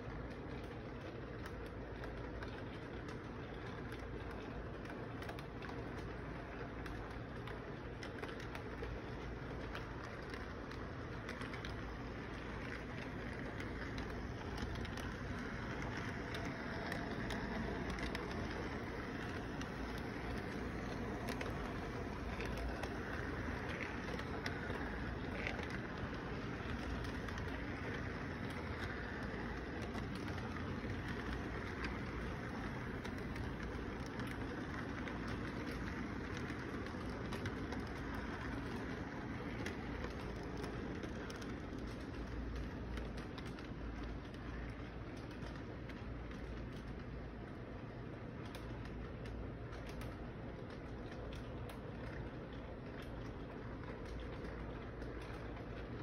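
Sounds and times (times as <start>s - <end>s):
faint clicks: 0.0s - 56.0s
toy train rumbling on track: 0.0s - 56.0s.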